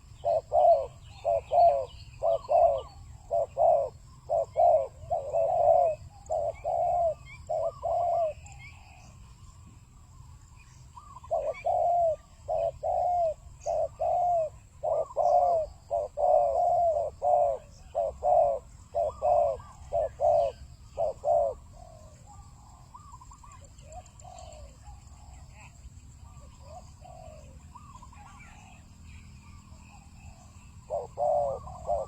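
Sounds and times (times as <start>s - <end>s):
dove cooing: 0.0s - 9.2s, 10.9s - 32.0s.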